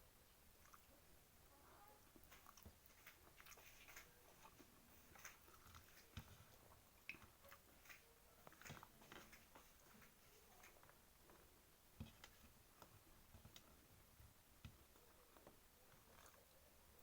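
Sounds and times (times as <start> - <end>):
person chewing with wet smacks: 0.3 - 1.0, 2.1 - 13.9, 14.6 - 17.0.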